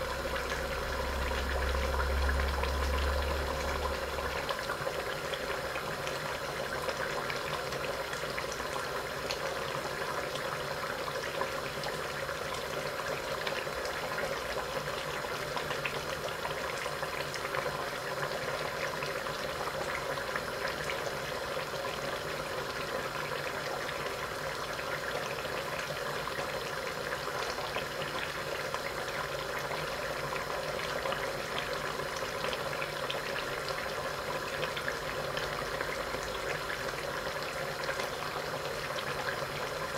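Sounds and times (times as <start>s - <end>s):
food bubbling and sizzling: 0.0s - 39.9s.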